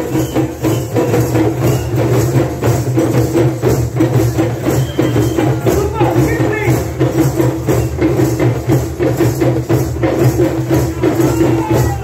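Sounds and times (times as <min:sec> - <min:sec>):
hand drum rhythm: 0:00.0 - 0:12.0
jingling percussion: 0:00.0 - 0:12.0.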